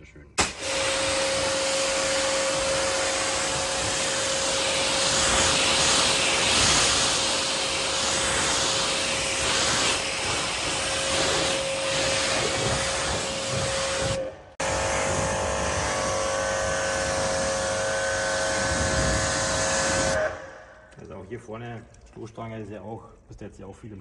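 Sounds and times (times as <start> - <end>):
hissing water spray: 0.4 - 20.6
pressure washer motor hum: 0.4 - 20.7.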